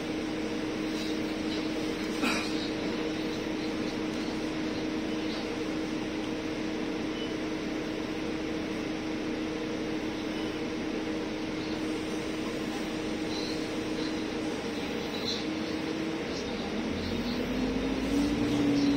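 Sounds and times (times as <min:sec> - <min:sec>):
bus cabin drone: 0:00.0 - 0:18.9.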